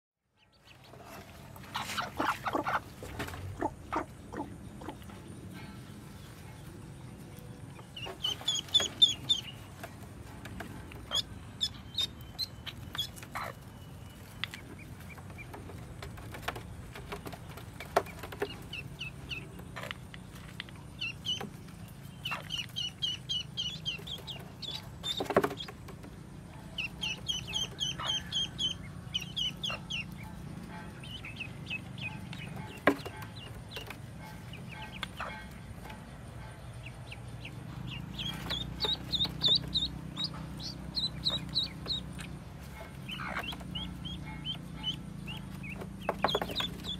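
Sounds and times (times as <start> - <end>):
ducklings peeping: 0.4 - 46.9
hen clucking: 0.5 - 6.0, 7.7 - 46.9.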